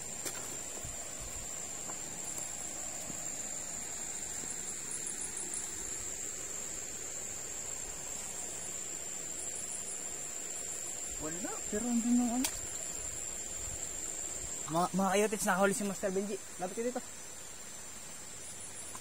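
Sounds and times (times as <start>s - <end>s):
crickets trilling: 0.0s - 19.0s
steady low hiss: 0.0s - 19.0s.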